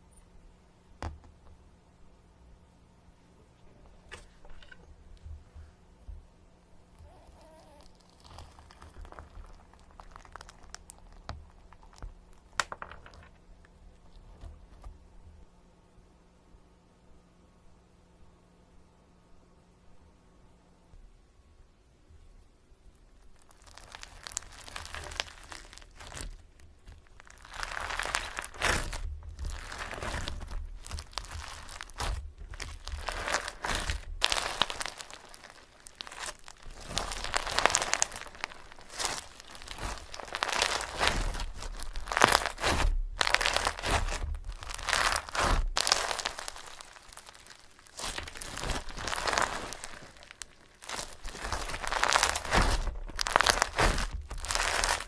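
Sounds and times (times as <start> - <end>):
crinkling and crunching mashing: 3.4 - 15.4, 22.9 - 55.0.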